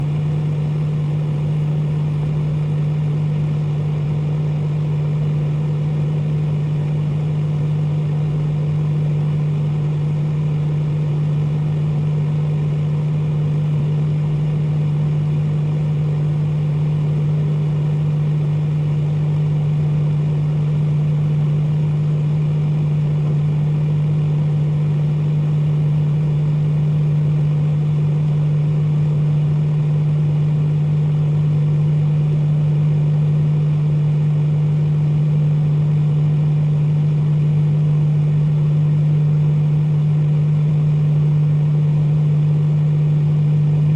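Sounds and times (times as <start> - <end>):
microwave oven humming: 0.0 - 43.9.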